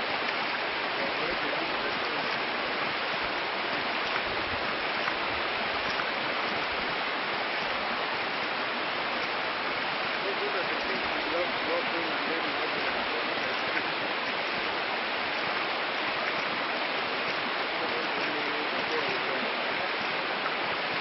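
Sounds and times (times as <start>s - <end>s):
water splashing from pump valve: 0.0s - 21.0s.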